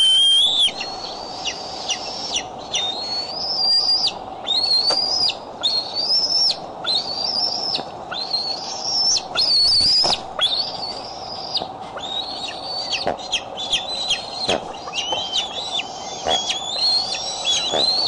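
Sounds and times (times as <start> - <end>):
eaglets squealing: 0.0 - 18.0.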